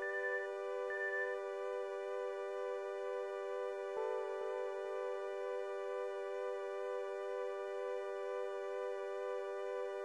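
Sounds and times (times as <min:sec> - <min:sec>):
soft background music chords: 0:00.0 - 0:10.0.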